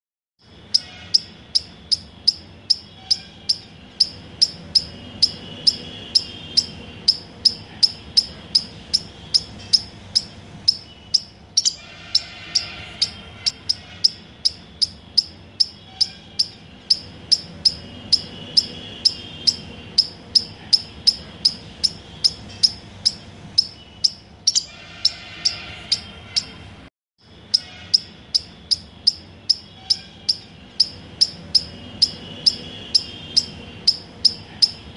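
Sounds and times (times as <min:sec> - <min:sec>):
high-pitched chirping: 0:00.4 - 0:26.7, 0:27.3 - 0:34.9.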